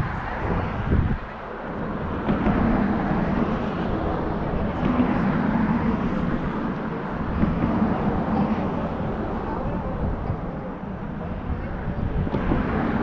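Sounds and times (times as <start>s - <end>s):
engine humming: 0.0s - 13.0s
wide rushing noise: 0.0s - 13.0s.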